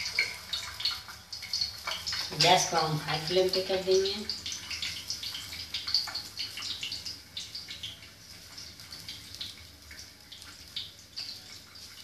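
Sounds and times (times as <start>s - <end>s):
oil sizzling and popping: 0.0s - 12.0s.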